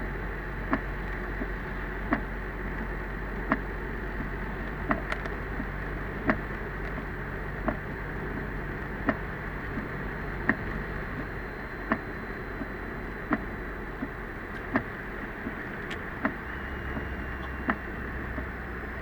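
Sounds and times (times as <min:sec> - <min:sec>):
road noise and rumble: 0:00.0 - 0:19.0
heavy rain on car: 0:00.1 - 0:19.0
windshield wipers clicking: 0:00.7 - 0:18.8.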